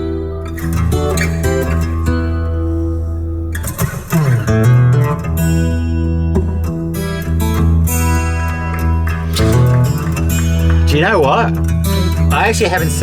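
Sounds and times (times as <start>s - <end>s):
acoustic guitar music with bass: 0.0s - 13.0s.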